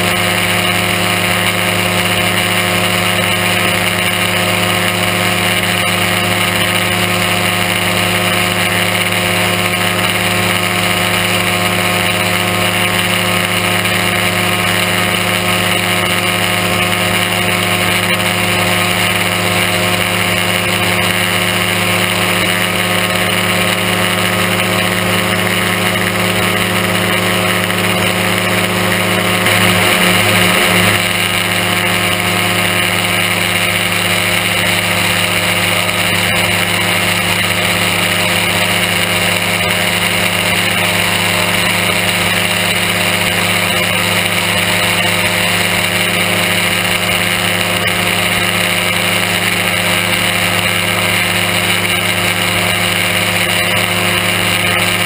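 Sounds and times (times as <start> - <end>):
aircraft engine and propeller: 0.0 - 55.0.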